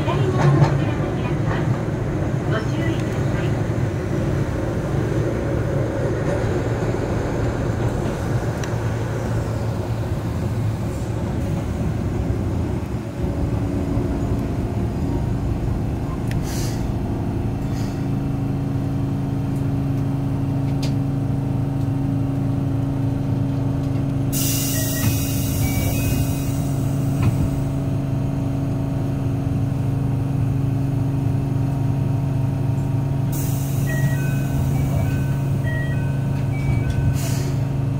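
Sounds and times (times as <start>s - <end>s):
tram wheels rumbling on rail: 0.0s - 37.9s.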